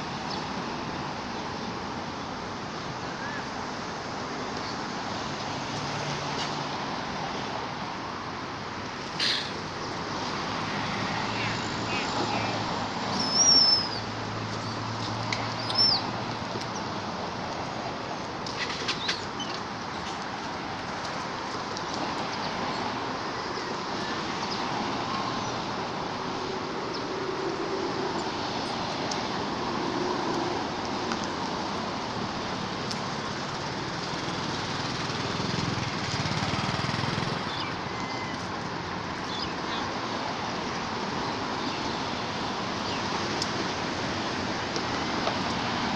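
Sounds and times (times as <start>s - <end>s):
outdoor background noise: 0.0s - 45.9s.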